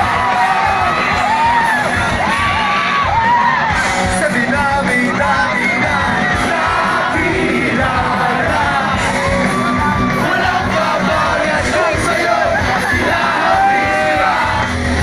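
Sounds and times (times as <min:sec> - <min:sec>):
crowd singing and yelling: 0:00.0 - 0:15.0
rock band playing: 0:00.0 - 0:15.0.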